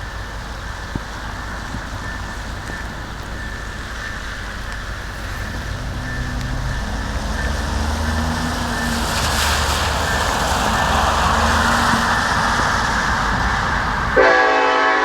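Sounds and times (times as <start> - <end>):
diesel locomotive engine drone: 0.0 - 15.0
train rushing noise: 0.0 - 15.0.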